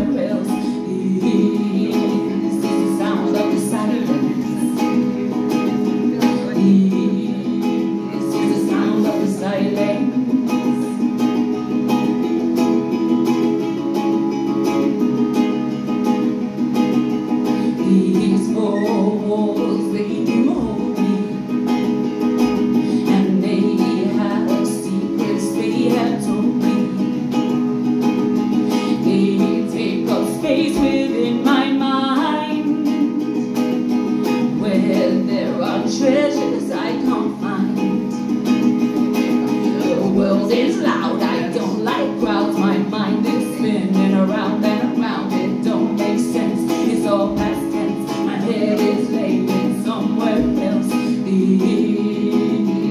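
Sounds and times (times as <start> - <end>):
ukulele strumming: 0.0 - 52.9
woman singing: 0.0 - 52.9.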